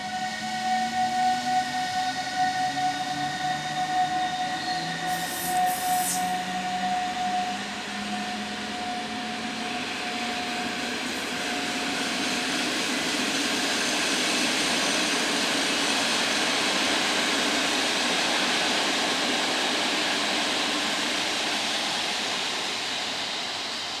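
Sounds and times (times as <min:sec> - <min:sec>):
train rushing past: 0:00.0 - 0:24.0.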